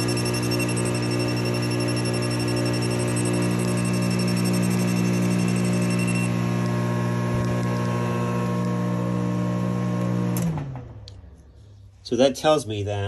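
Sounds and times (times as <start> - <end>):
microwave oven humming: 0.0 - 11.1.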